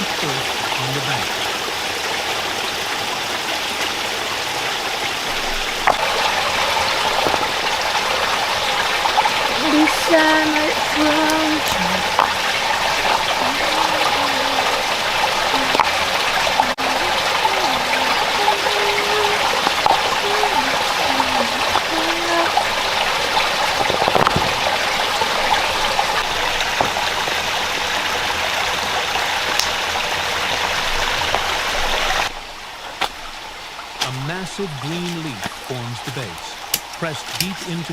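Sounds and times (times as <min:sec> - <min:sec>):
river rushing over rocks: 0:00.0 - 0:32.8.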